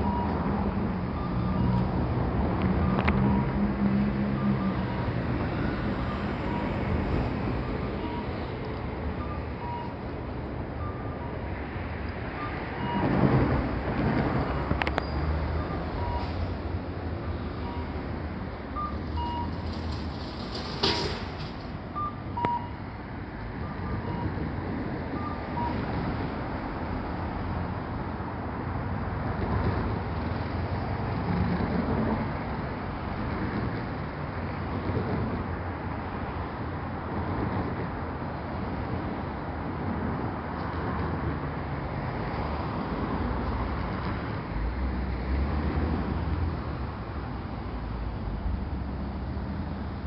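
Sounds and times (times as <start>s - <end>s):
street traffic: 0.0s - 50.0s
tram rumbling: 0.0s - 50.0s.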